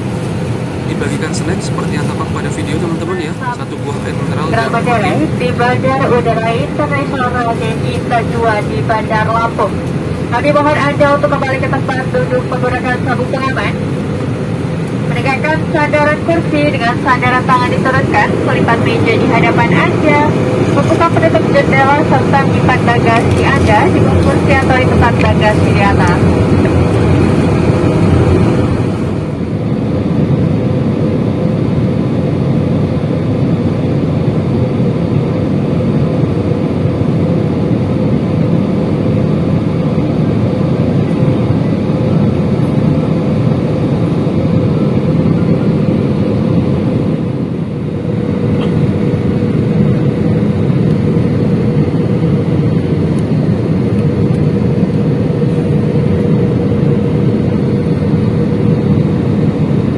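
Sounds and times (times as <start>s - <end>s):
jet engine roar in cabin: 0.0s - 59.9s.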